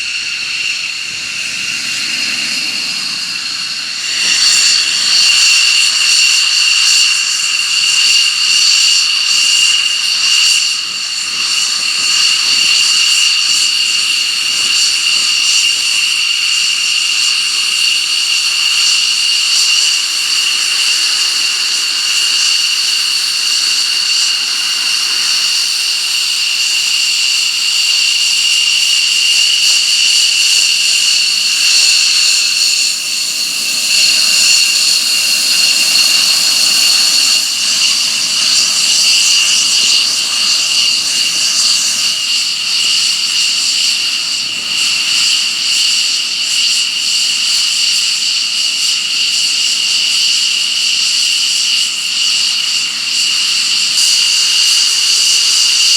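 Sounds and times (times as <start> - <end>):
jet engine whining: 0.0 - 55.9.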